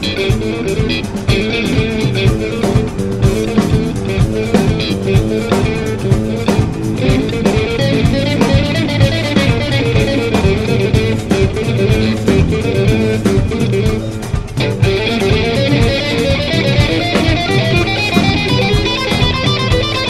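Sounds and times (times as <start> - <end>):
bass guitar: 0.0 - 20.0
drum kit beat: 0.0 - 20.0
electric guitar notes: 0.0 - 20.0.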